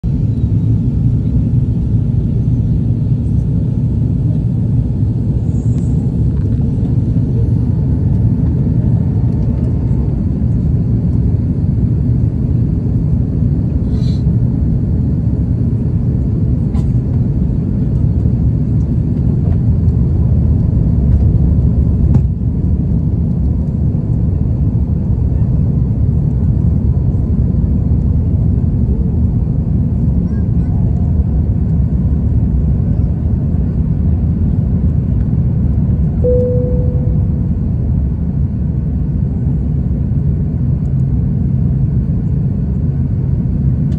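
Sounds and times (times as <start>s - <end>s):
jet engine roar in cabin: 0.0s - 43.9s.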